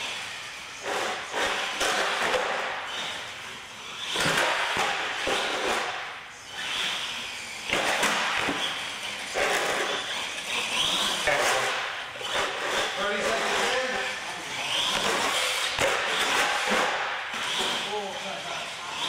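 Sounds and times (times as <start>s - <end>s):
toy truck motor and tyres: 0.0s - 19.0s.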